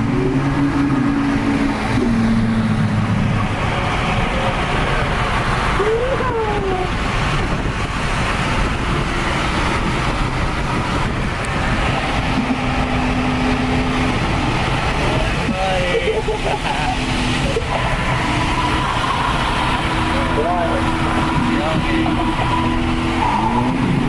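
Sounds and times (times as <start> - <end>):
car exhaust droning: 0.0 - 24.0
road and tyre noise: 0.0 - 24.0.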